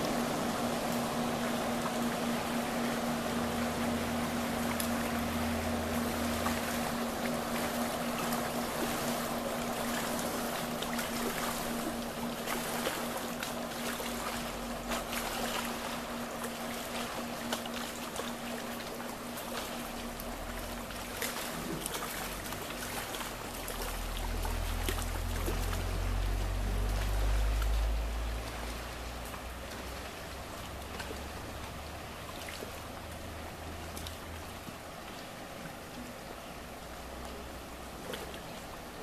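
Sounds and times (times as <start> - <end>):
distant watercraft engine drone: 0.0 - 39.0
lapping water: 4.6 - 36.2.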